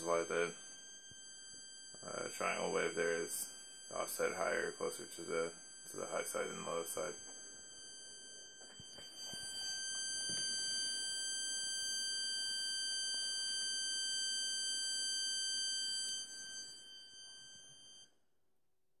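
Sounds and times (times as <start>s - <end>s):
high-pitched buzzing tone: 0.0s - 18.1s.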